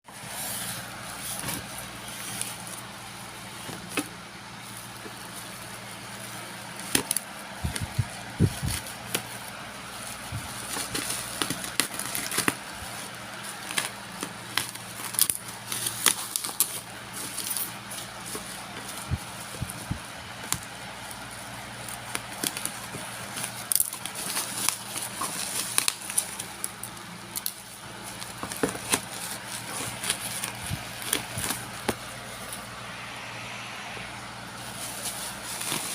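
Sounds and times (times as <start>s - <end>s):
low background hum: 0.1s - 35.9s
packaging crinkling: 0.2s - 32.7s, 34.6s - 35.9s.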